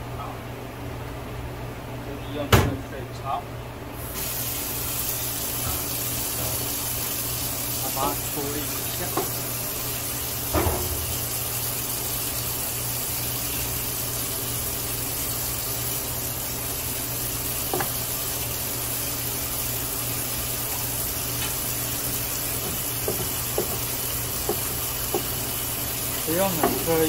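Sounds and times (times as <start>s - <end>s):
steady hiss: 4.0s - 27.0s.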